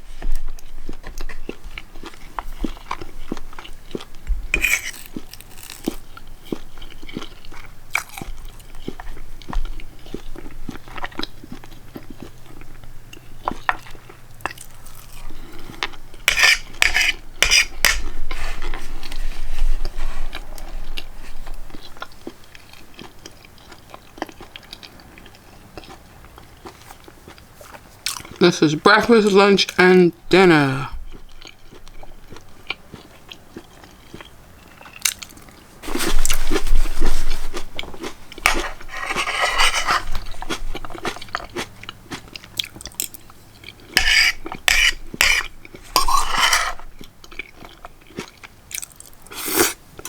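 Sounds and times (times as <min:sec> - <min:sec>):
person chewing food: 0:00.2 - 0:28.4, 0:30.5 - 0:50.0.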